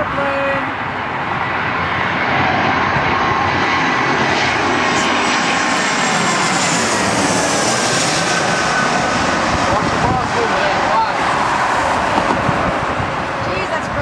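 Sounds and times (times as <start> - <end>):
jet engines rushing and whining: 0.0 - 14.0.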